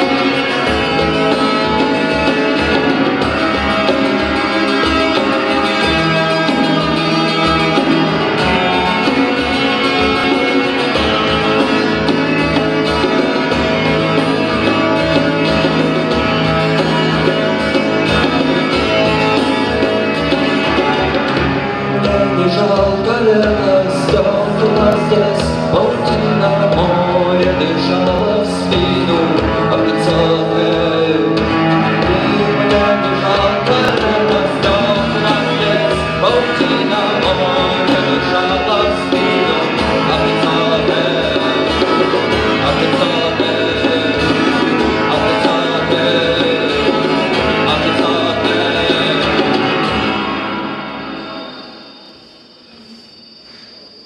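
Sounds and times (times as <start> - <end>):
acoustic guitar playing: 0.0 - 52.0.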